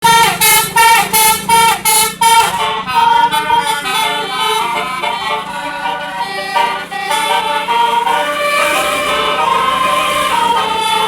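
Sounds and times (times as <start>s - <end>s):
bus horn blasts: 0.0s - 11.0s
bus horn playing a tune: 0.0s - 11.0s.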